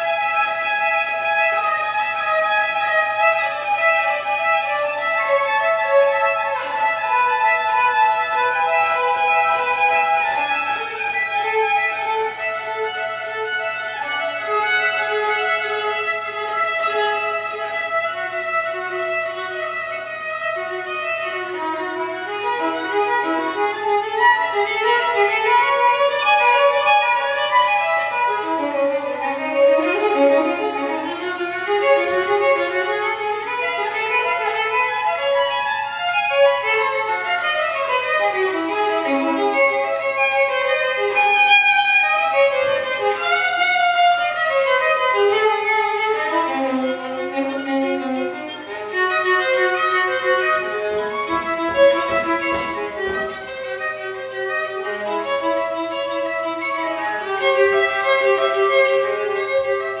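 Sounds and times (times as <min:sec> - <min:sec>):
solo violin playing: 0:00.0 - 1:00.0.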